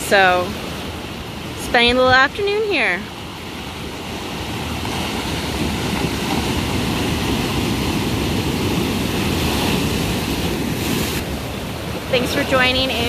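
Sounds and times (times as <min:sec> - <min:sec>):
ocean surf breaking over rock: 0:00.0 - 0:13.0.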